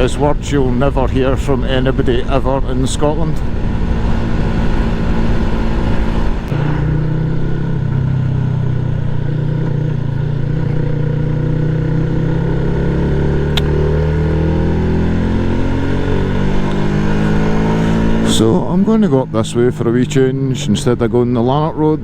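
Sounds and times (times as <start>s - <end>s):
motorcycle engine accelerating: 0.0s - 20.4s.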